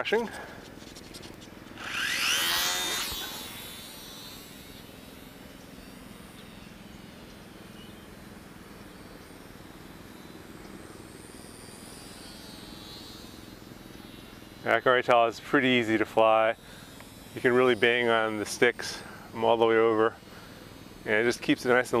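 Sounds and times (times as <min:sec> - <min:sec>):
small electric motor whining: 0:00.0 - 0:22.0.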